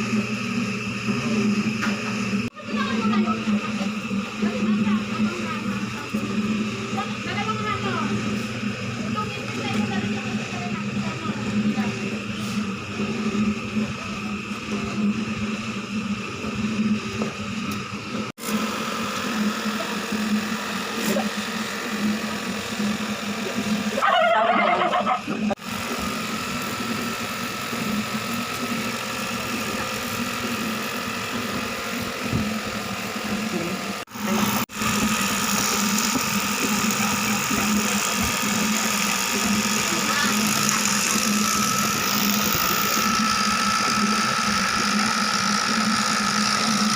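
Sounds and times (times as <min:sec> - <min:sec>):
motor humming: 0:00.0 - 0:46.9.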